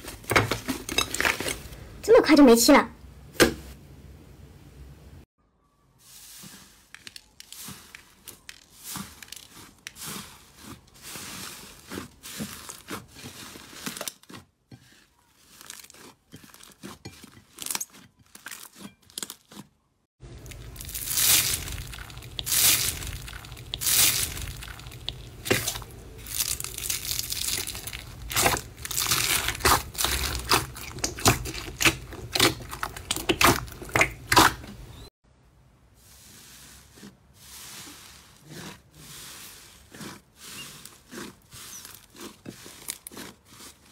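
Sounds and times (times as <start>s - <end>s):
bead slime crunching: 6.0s - 35.1s, 36.1s - 43.9s
slime crackling and squishing: 6.0s - 35.1s, 36.0s - 43.9s.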